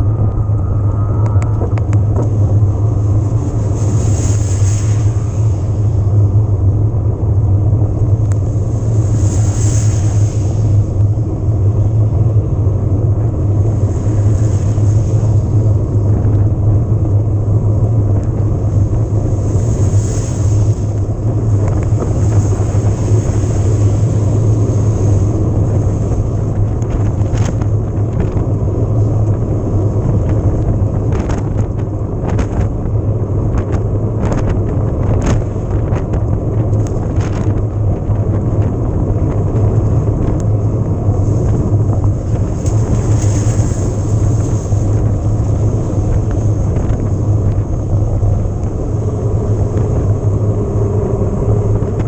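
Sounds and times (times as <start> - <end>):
wind and tyre rumble: 0.0 - 52.0.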